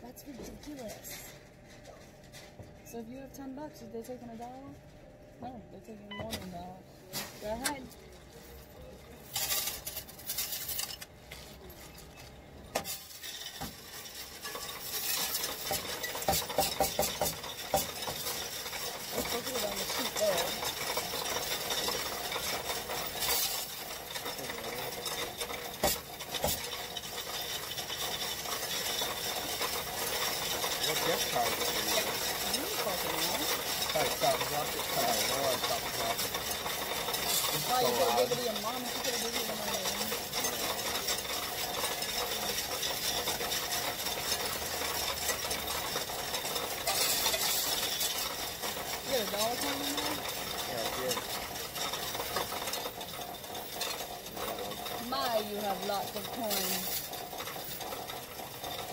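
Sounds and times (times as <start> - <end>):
coins clinking in counting machine: 6.1 - 6.7, 7.4 - 58.9.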